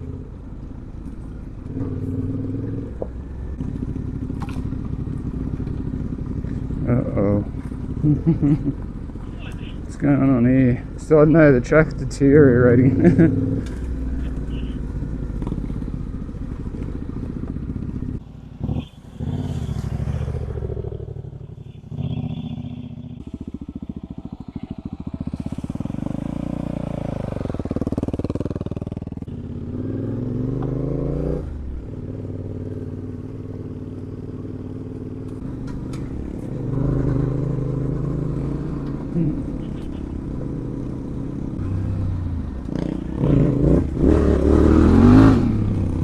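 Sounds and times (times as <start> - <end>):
motorcycle engine revving: 1.5 - 46.0.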